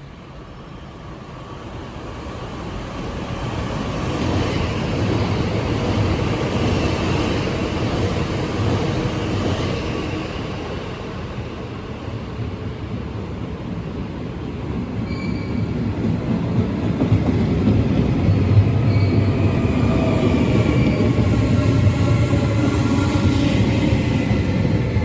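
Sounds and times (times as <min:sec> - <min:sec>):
train rumbling past: 0:00.2 - 0:25.0.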